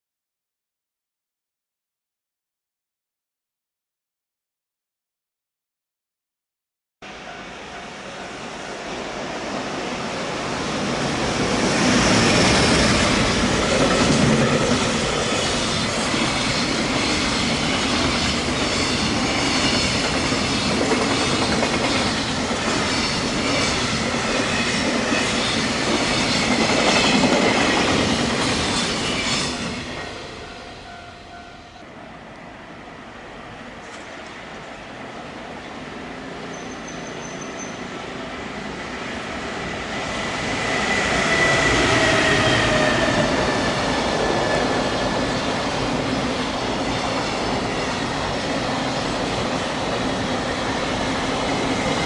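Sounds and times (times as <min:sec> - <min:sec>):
freight train passing: 0:07.0 - 0:52.0.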